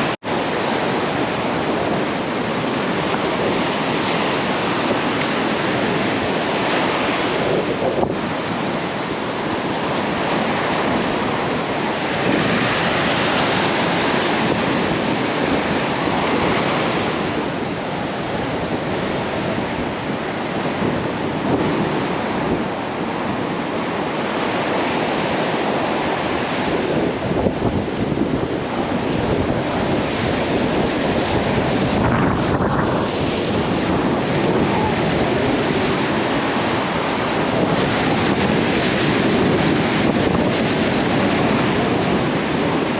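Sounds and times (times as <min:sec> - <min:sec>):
ocean surf breaking on shore: 0:00.0 - 0:42.9
wind buffeting microphone: 0:00.0 - 0:42.9.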